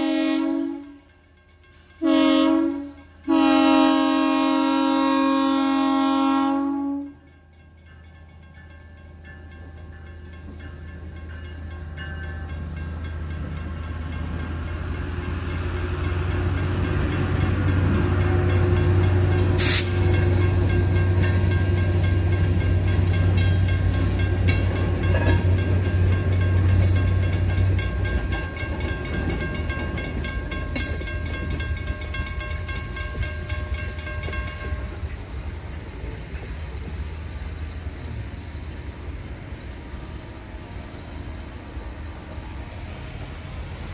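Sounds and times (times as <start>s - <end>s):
crossing warning bells ringing: 0.0s - 43.9s
freight train cars rolling: 0.0s - 43.9s.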